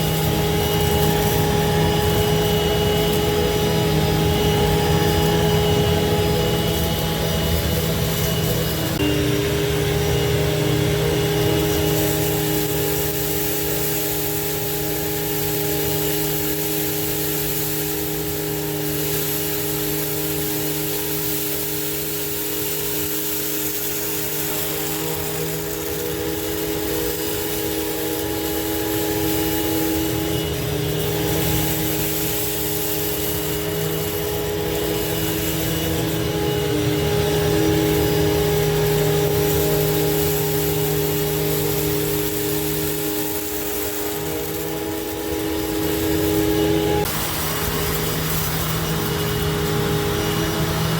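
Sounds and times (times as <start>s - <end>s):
upright vacuum cleaner running: 0.0s - 50.9s.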